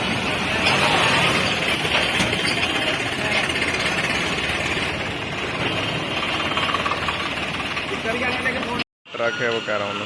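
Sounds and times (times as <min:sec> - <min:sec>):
truck engine clattering: 0:00.0 - 0:08.8.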